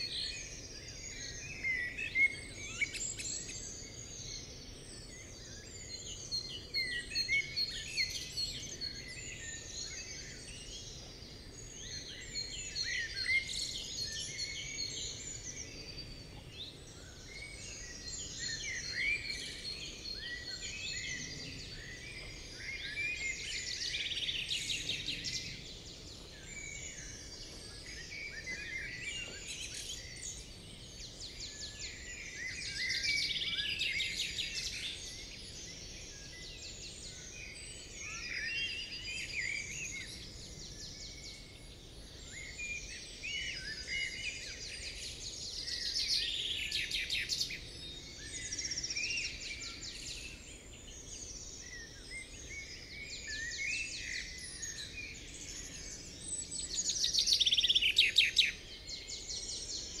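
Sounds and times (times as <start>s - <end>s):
songbirds singing: 0.0s - 60.0s.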